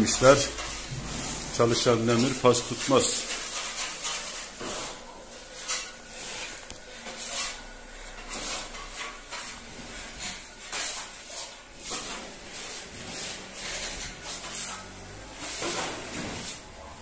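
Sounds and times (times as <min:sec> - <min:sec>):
hand tool scraping drywall: 0:00.0 - 0:16.9.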